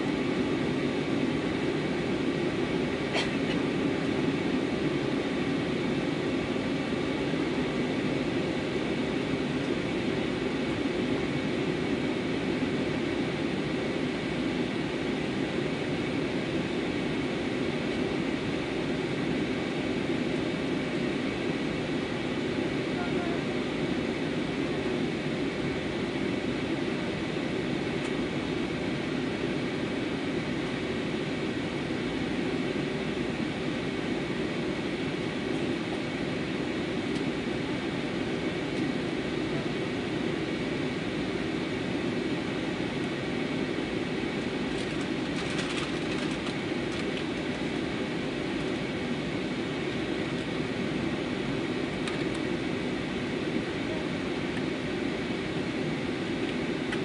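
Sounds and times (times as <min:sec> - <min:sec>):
airplane cabin engine rumble: 0:00.0 - 0:57.0
faint steady whine: 0:00.0 - 0:57.0.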